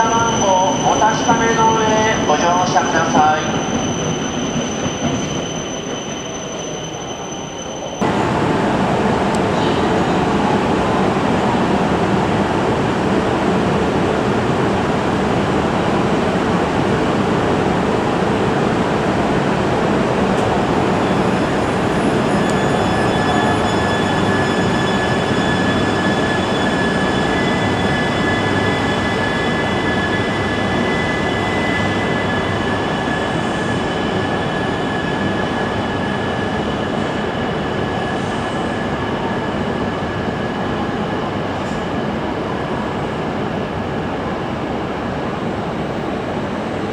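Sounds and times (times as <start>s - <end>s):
train rail noise rushing: 0.0s - 46.9s.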